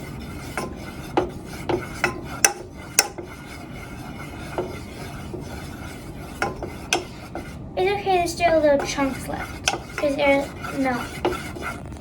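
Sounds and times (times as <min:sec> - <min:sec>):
spoon scraping pot: 0:00.0 - 0:12.0.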